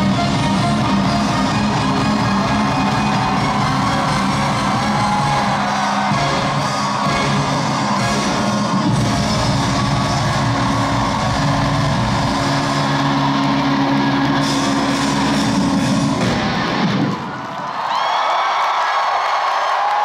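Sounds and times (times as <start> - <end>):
live band holding a chord: 0.0 - 17.2
crowd cheering and screaming: 0.0 - 20.0.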